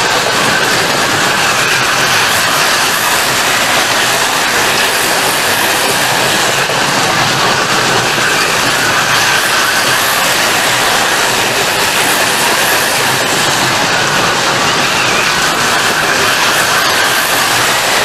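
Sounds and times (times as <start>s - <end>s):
slot cars whirring with high whine: 0.0s - 18.0s.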